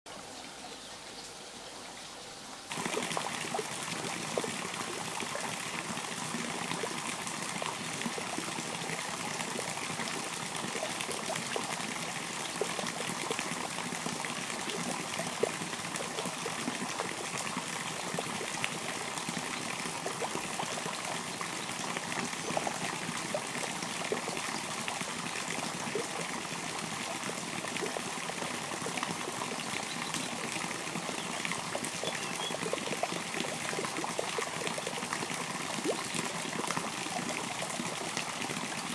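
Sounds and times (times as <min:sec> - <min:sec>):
river water running: 0:00.1 - 0:38.9
water drips and splashes: 0:02.7 - 0:38.9.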